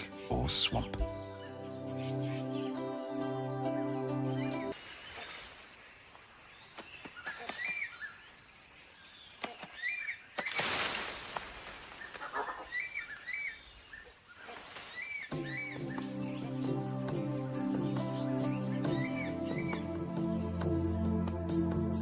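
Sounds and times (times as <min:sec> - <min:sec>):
forest ambience: 0:00.0 - 0:22.0.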